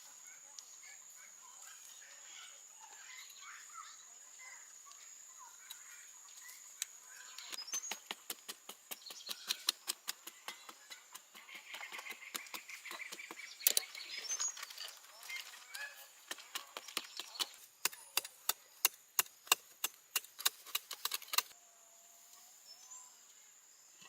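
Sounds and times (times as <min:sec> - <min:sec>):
bird chirps: 0:00.2 - 0:18.3, 0:22.6 - 0:24.0.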